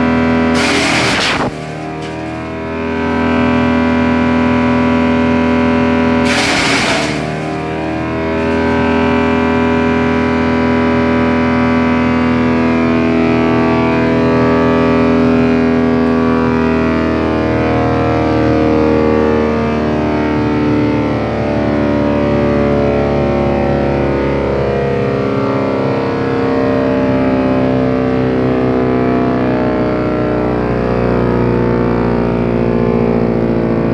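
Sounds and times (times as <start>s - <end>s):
wood chipper droning: 0.0s - 33.9s.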